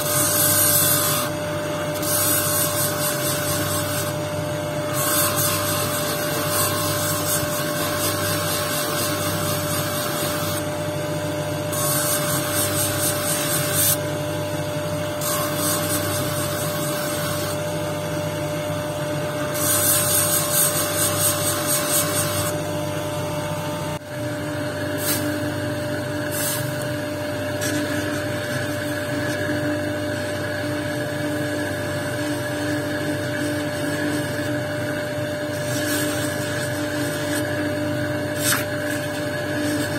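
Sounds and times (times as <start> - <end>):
stone scraping on grinding wheel: 0.0 - 10.8, 11.6 - 14.1, 15.0 - 17.8, 19.1 - 22.7, 24.2 - 39.9
grinding machine motor hum: 0.0 - 39.9.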